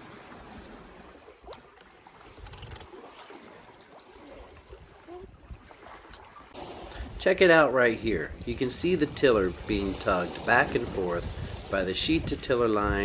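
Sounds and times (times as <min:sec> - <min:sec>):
water rushing along hull: 0:00.0 - 0:13.0.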